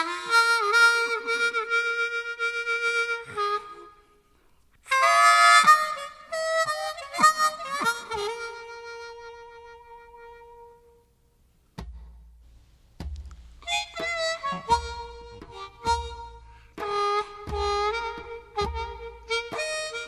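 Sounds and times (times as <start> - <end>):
harmonica with bent notes: 0.0 - 11.1, 13.3 - 20.0.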